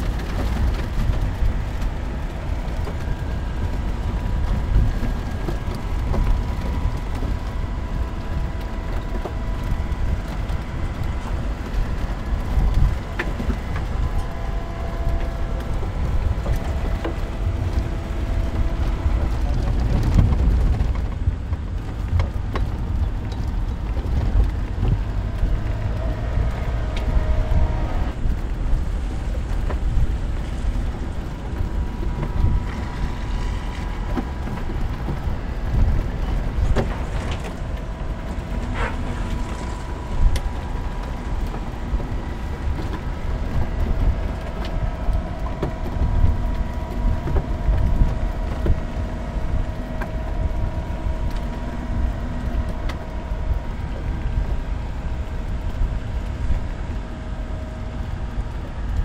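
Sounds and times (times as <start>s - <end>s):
engine rumble: 0.0s - 59.0s.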